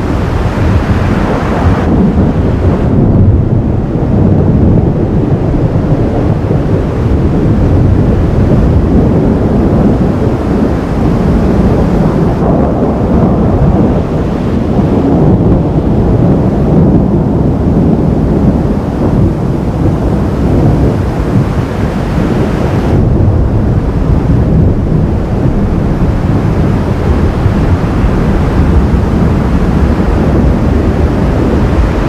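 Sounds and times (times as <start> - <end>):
thunder rumble: 0.0 - 32.0.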